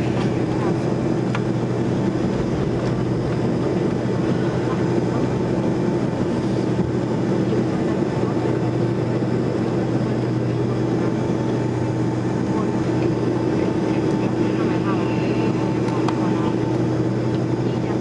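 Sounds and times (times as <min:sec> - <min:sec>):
jet engines droning in cabin: 0:00.0 - 0:18.0.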